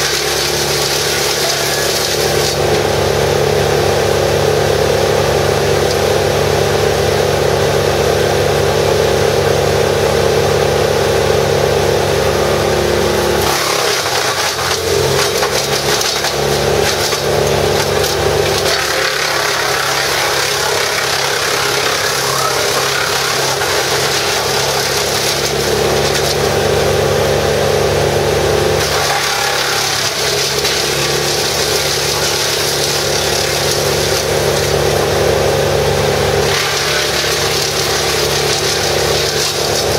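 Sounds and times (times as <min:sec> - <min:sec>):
brush chipper engine running: 0:00.0 - 0:39.9.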